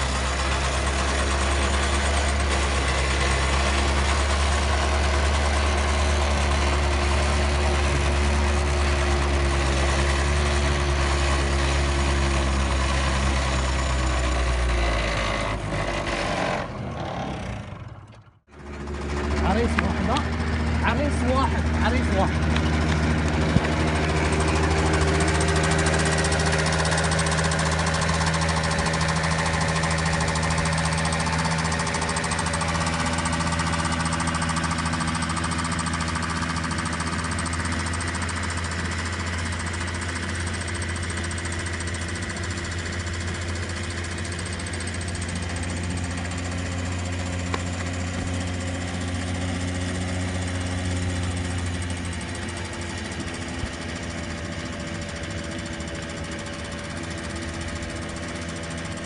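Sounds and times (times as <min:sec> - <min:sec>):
small car engine running: 0:00.0 - 0:59.0.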